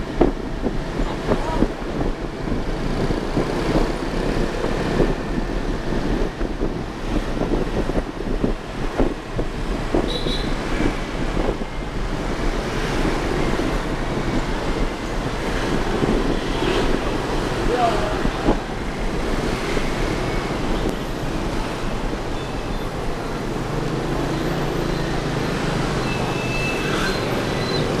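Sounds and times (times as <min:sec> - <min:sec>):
traffic noise: 0:00.0 - 0:28.0
wind buffeting microphone: 0:00.0 - 0:28.0.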